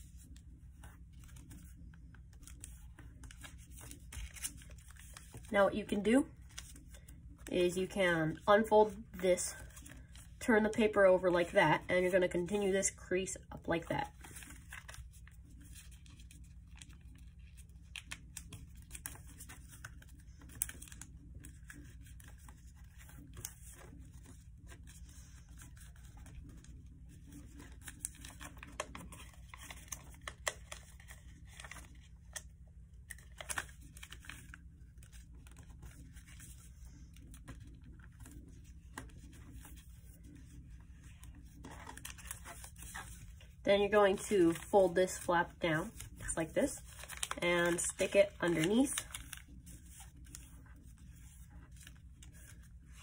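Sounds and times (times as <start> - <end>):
paper rustling and crinkling: 0.0 - 12.4, 13.7 - 53.0.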